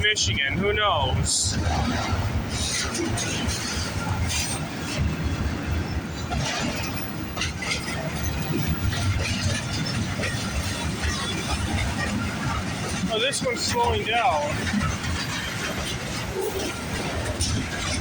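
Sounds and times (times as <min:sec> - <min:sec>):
train cars clanking: 0:00.0 - 0:18.0
train wheels rumbling on rails: 0:00.0 - 0:18.0.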